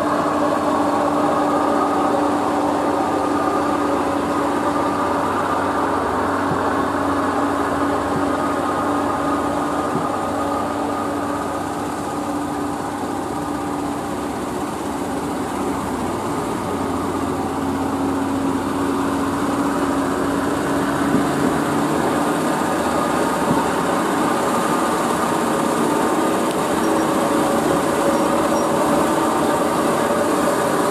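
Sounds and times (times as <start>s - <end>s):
diesel truck engine running: 0.0s - 30.9s
engine whine: 0.0s - 30.9s.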